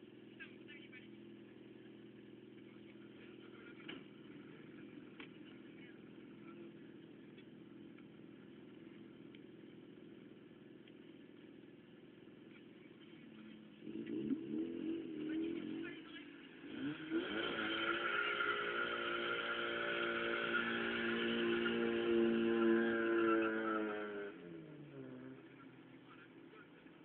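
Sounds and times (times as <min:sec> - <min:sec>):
car engine idling: 0:00.0 - 0:27.0
car engine revving: 0:00.0 - 0:27.0.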